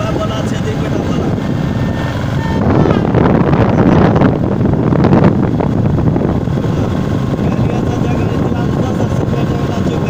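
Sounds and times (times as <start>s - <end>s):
vehicle running on paved road: 0.0s - 10.0s
wind buffeting microphone: 0.0s - 10.0s.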